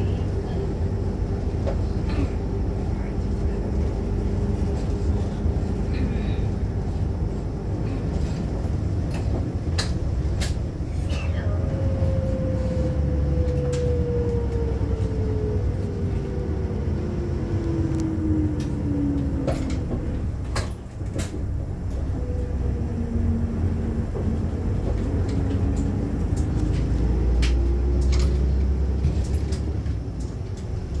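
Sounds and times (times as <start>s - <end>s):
bus engine and road rumble: 0.0s - 31.0s
engine whine: 0.0s - 31.0s.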